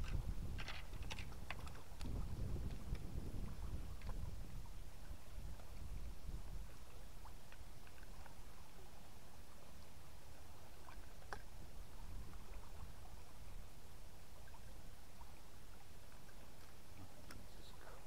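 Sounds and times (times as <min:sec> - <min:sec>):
river flowing and swirling: 0:00.0 - 0:18.0
water lapping: 0:00.0 - 0:18.0.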